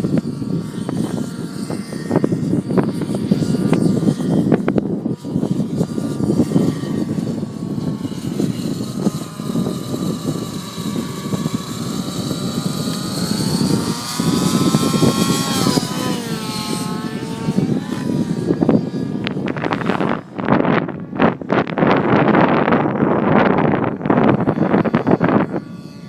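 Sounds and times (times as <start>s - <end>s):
rc helicopter engine and rotor whine: 0.0s - 26.0s
wind buffeting microphone: 0.0s - 26.0s.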